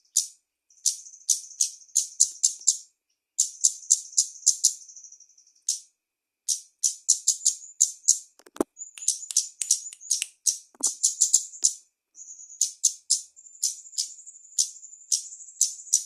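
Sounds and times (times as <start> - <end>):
bird chirping and trilling: 0.0 - 5.9, 6.5 - 16.0.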